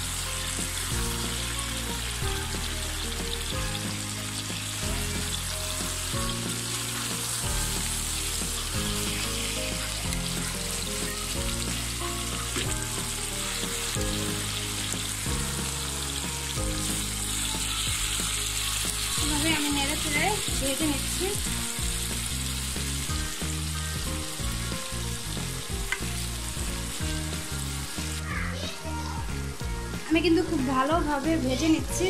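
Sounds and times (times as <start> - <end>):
fish sizzling in a wok: 0.0 - 32.0
soft background music: 0.0 - 32.0.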